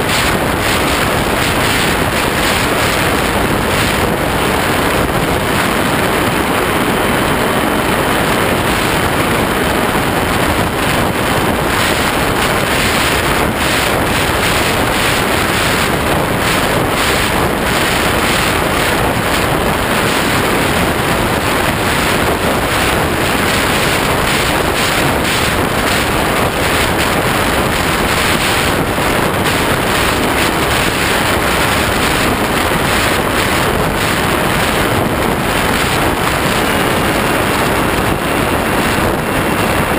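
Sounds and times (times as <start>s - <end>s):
ducted fan running: 0.0s - 39.9s
wind rushing over microphone: 0.0s - 39.9s.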